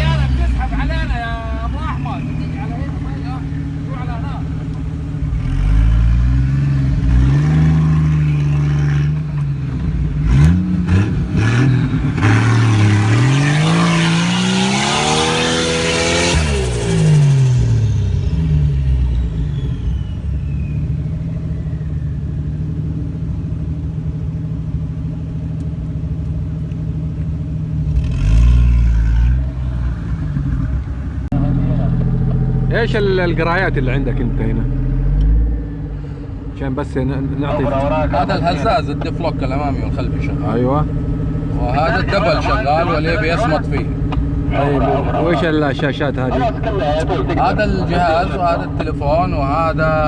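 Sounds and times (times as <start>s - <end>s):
off-road engine revving: 0.0s - 23.7s, 27.2s - 50.0s.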